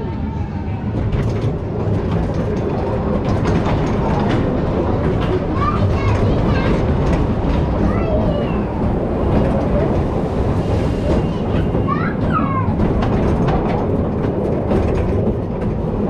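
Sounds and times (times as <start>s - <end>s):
roller coaster rumbling: 0.0s - 16.0s
wheels clicking: 0.8s - 16.0s.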